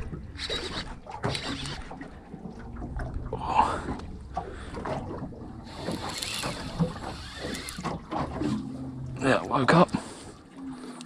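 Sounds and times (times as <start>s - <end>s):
water lapping at a hull: 0.0s - 11.0s.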